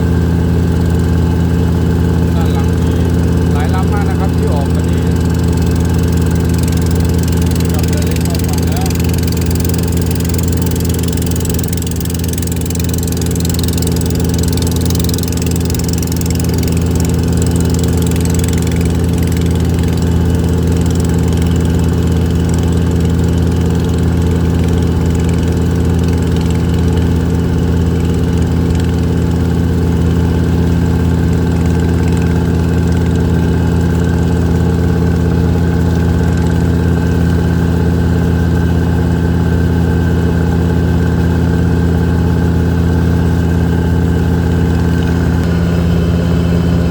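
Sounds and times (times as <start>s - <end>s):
boat engine droning: 0.0s - 46.9s.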